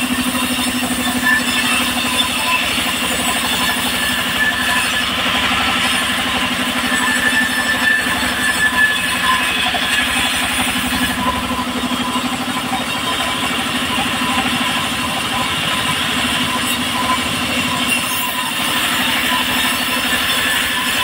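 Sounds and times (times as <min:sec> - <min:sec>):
saw ringing through log: 0:00.0 - 0:21.0
sawmill engine running: 0:00.0 - 0:21.0.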